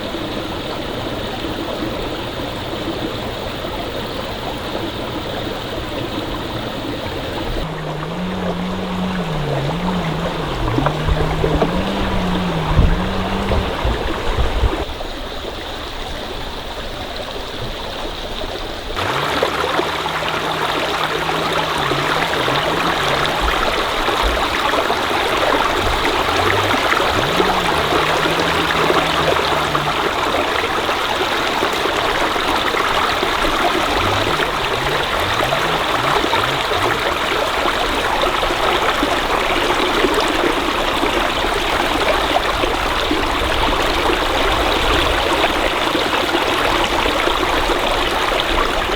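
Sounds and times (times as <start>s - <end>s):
stream water rushing: 0.0s - 15.8s, 16.5s - 48.9s.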